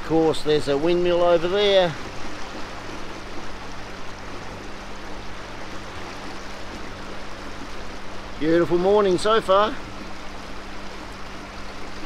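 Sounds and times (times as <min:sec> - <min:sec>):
boat motor humming: 0:00.0 - 0:12.0
water rushing: 0:00.0 - 0:12.0.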